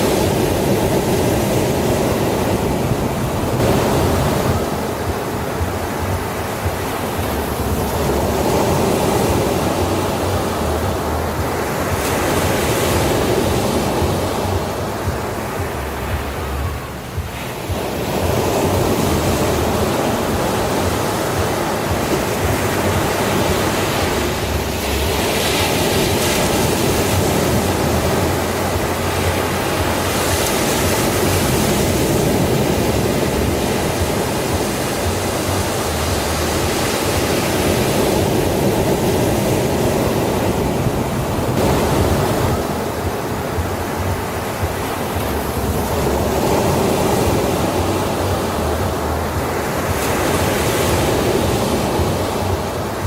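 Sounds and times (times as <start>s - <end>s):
sea waves washing on beach: 0.0s - 53.0s.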